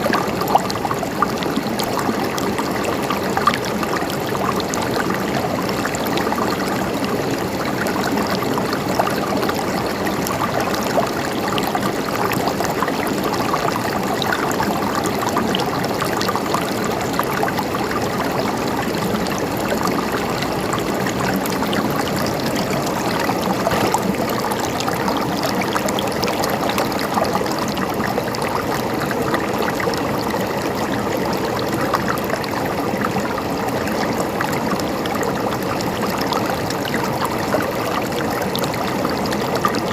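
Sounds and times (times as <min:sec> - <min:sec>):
stream water trickling over stones: 0:00.0 - 0:39.9.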